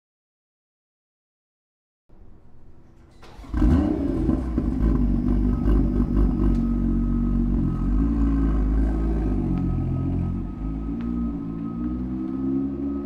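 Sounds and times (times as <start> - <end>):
car engine starting and idling: 2.5 - 13.0.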